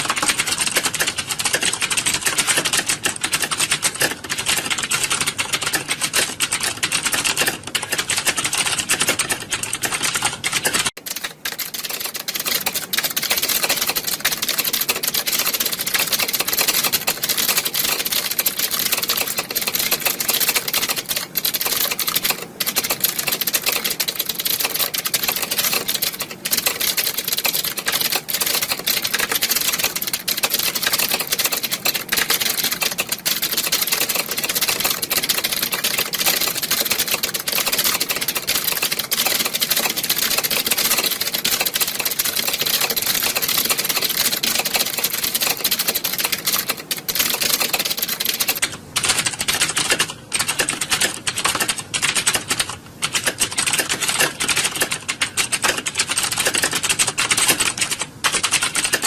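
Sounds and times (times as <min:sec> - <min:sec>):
keyboards typing clatter: 0:00.0 - 0:59.0.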